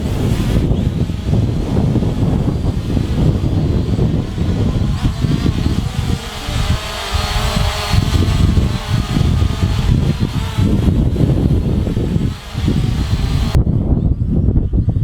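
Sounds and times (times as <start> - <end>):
drone motors whining: 0.0 - 13.6
wind buffeting microphone: 0.0 - 15.0.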